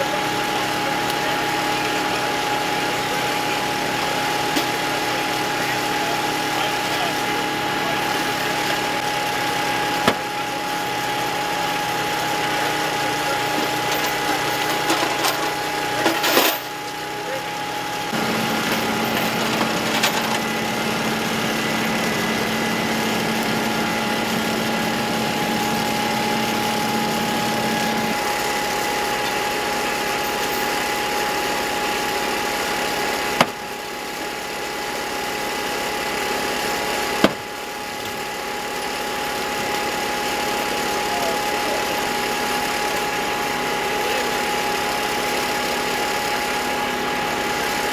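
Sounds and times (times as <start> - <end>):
engine droning with high whine: 0.0 - 47.9.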